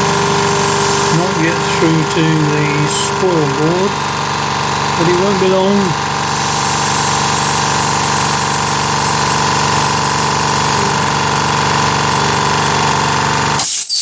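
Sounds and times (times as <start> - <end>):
milling machine spindle whine: 0.0 - 14.0.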